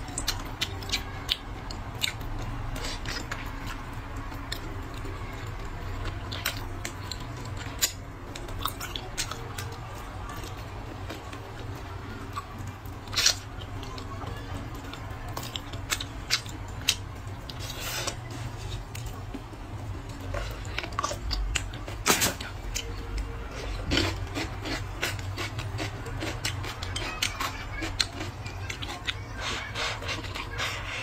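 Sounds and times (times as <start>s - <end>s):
chewing and mouth noises: 0.0s - 31.0s.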